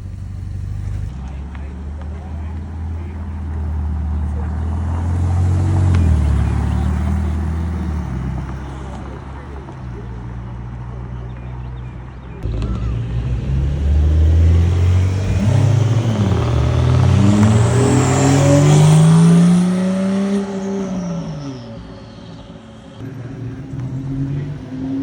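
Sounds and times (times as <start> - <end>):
car engine accelerating past: 0.0 - 11.2, 12.4 - 25.0.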